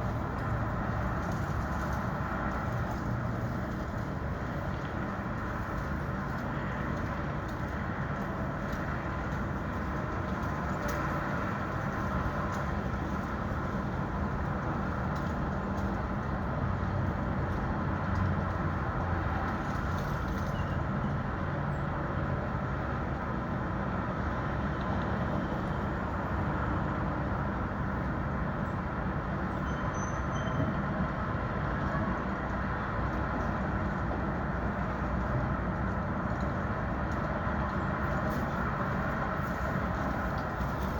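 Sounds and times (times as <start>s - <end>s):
traffic rumble: 0.0s - 40.9s.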